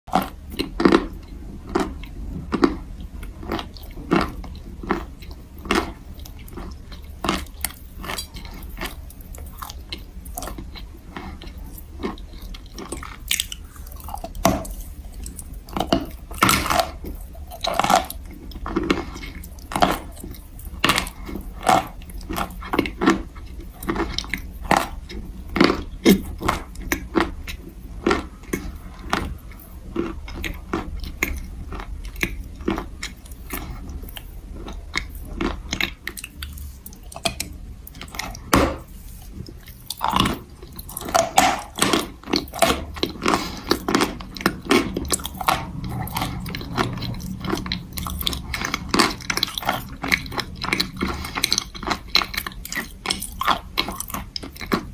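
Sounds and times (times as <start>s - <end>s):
chewing and crunching chalk: 0.1s - 54.9s.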